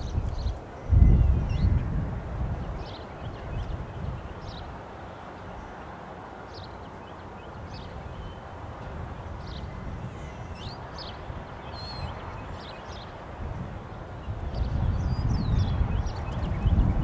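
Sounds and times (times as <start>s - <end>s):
distant diesel locomotives rumbling: 0.0s - 17.0s
small birds chirping: 2.6s - 17.0s.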